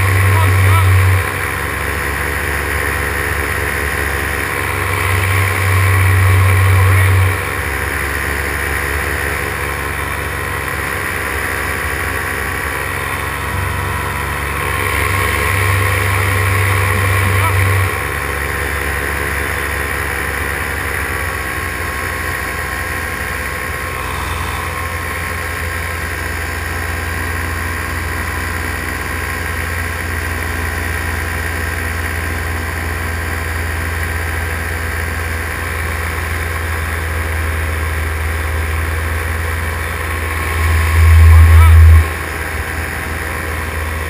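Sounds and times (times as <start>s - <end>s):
paramotor engine and propeller: 0.0s - 44.0s.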